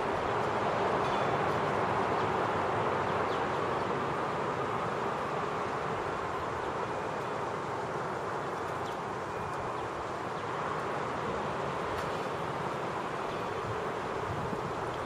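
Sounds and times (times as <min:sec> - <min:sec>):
steady outdoor rush: 0:00.0 - 0:15.0.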